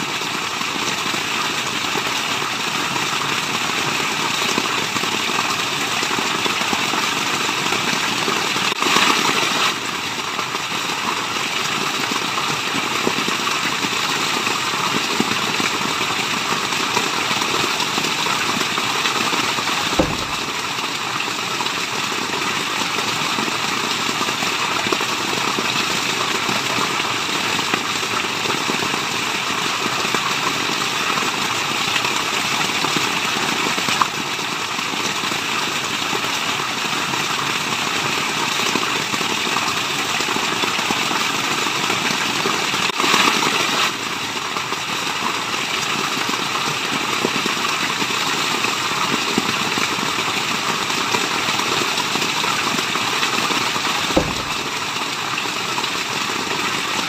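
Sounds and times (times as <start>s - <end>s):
rushing falling water: 0.0s - 57.0s.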